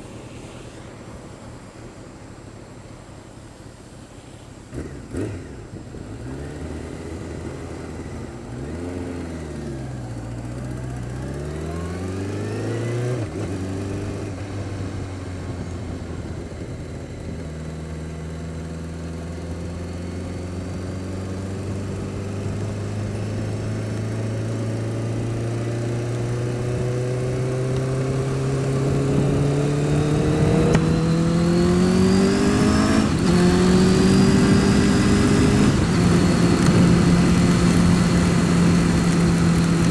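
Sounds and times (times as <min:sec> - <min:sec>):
motorcycle engine running: 0:04.6 - 0:39.9.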